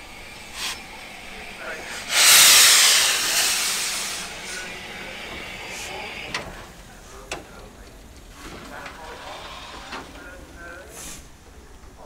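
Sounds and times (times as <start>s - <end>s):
steam locomotive hissing steam: 0.0s - 7.7s, 8.3s - 12.0s.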